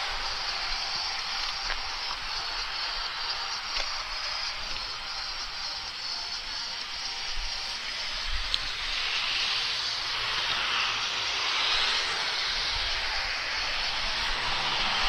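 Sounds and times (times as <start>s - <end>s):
wind and road noise hiss: 0.0s - 15.0s.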